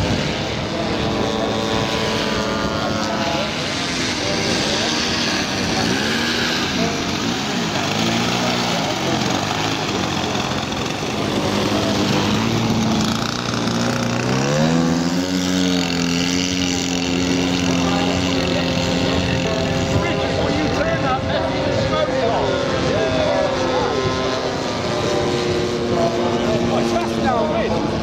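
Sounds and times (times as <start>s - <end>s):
model aircraft engine in flight: 0.0s - 28.0s
model plane engine throttling up: 0.0s - 28.0s.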